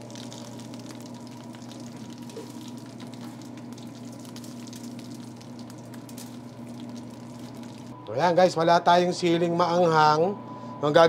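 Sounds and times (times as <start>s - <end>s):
kitchen equipment humming: 0.0s - 11.0s.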